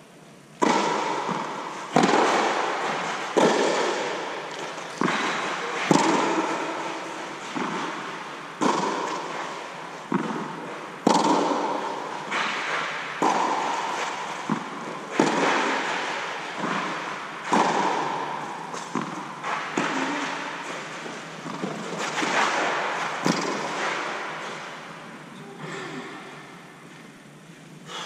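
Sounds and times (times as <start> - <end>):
tennis ball hits echoing: 0.6 - 25.0.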